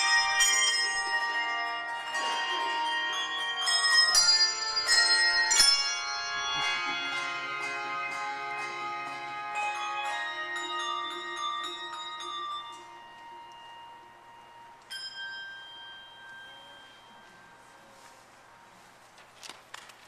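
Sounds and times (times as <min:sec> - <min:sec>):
handbell choir ringing: 0:00.0 - 0:18.7
high bell ringing out: 0:00.0 - 0:18.7.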